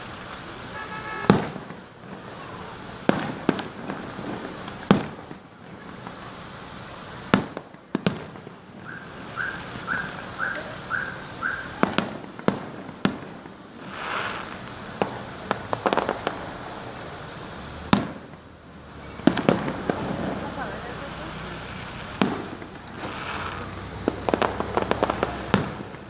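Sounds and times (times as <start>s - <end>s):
fireworks banging: 0.0s - 26.0s
fireworks crackling: 0.0s - 26.0s.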